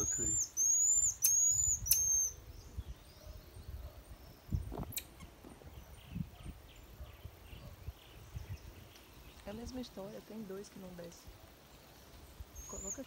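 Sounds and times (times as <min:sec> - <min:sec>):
marmosets chirping: 0:00.0 - 0:13.0.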